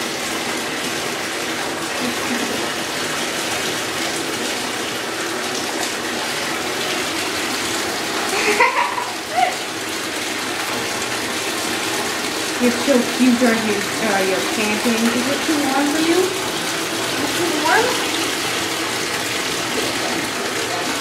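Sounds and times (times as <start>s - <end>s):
tap water running into bathtub: 0.0s - 21.0s.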